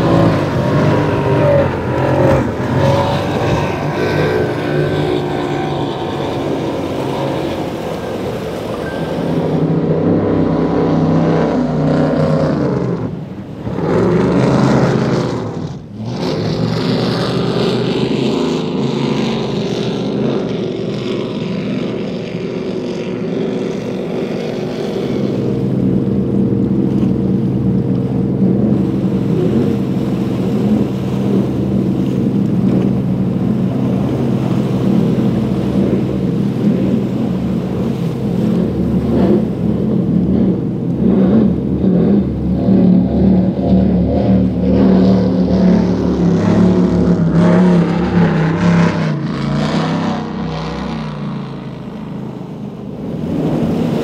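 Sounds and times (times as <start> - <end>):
powerboat engines roaring: 0.0 - 54.0.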